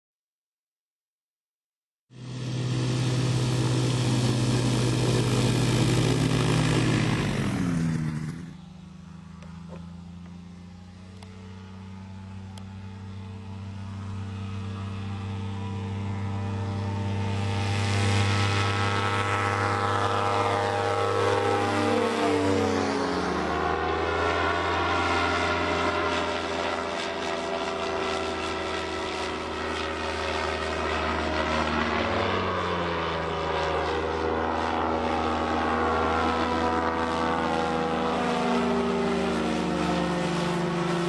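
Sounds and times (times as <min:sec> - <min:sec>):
ultralight aircraft engine: 0:02.1 - 0:41.0.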